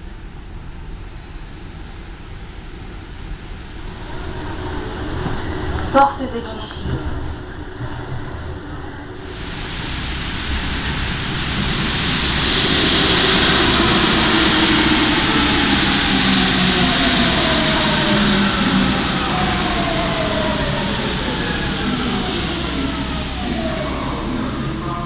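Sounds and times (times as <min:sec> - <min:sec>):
metro train rushing past: 0:00.0 - 0:25.0.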